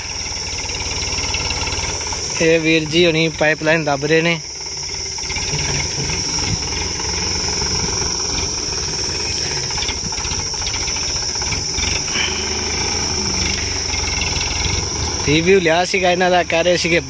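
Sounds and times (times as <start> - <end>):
high-pitched insect drone: 0.0 - 17.0
tractor diesel engine running: 0.0 - 17.0.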